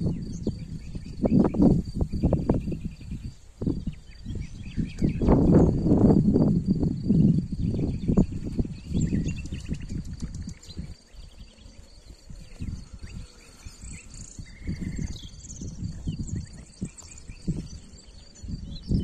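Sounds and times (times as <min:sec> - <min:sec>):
birds chirping and trilling: 0:00.0 - 0:19.0.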